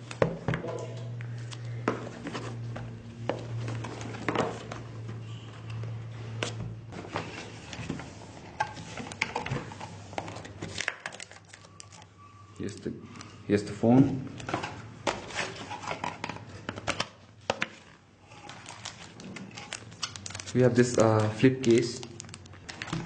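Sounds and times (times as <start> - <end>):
cardboard and plastic packaging rustling: 0.0 - 13.2, 14.4 - 23.0.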